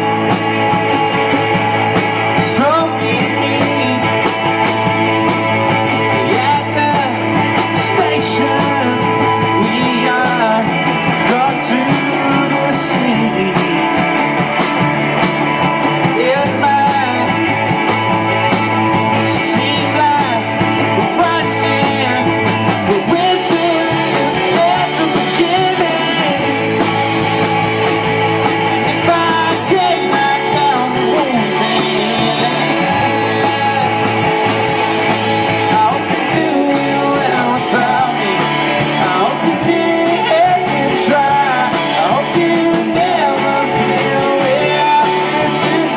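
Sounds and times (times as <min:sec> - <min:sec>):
bass line: 0:00.0 - 0:45.9
lead vocal singing: 0:00.0 - 0:45.9
rock band playing live: 0:00.0 - 0:45.9.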